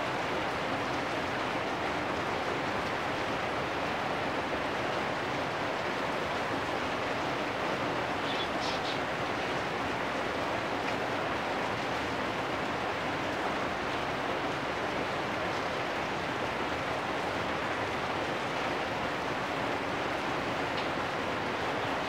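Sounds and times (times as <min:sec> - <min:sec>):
rain on metal roofs: 0:00.0 - 0:22.0.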